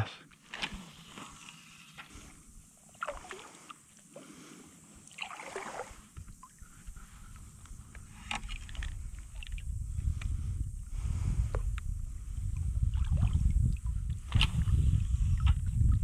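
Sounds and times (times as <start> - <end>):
kayak paddle stroking water: 0.4 - 10.6, 11.5 - 16.0.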